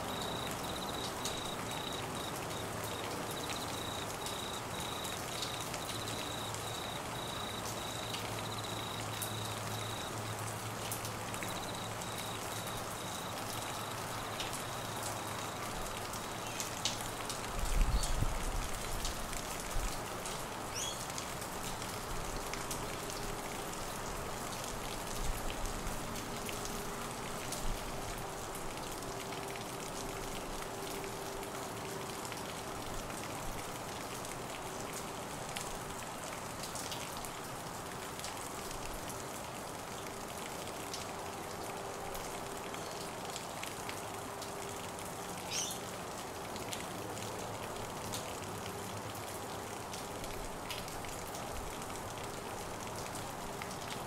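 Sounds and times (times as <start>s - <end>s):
raindrops ticking: 0.0s - 54.0s
steady rain hiss: 0.0s - 54.0s.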